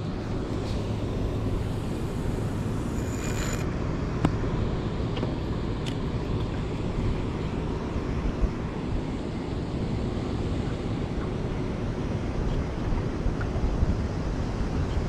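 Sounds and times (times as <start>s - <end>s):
low steady hum: 0.0s - 15.0s
wind: 0.0s - 15.0s.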